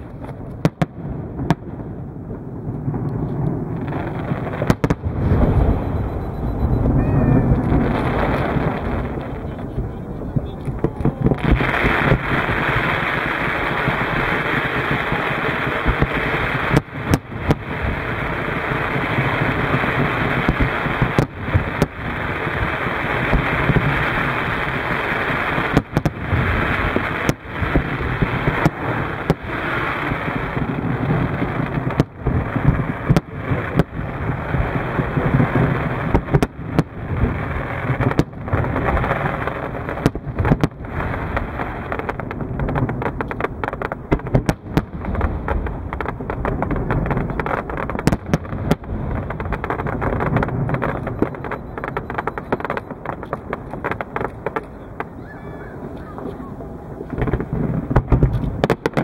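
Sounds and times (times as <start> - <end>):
crackling firework reports: 0.0 - 59.0
fireworks launches and bursts: 0.0 - 59.0
sharp firework bangs: 0.0 - 59.0.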